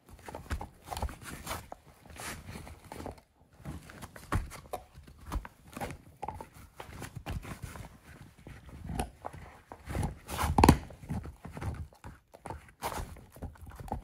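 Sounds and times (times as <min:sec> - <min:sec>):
dog gnawing a bone: 0:00.0 - 0:14.0.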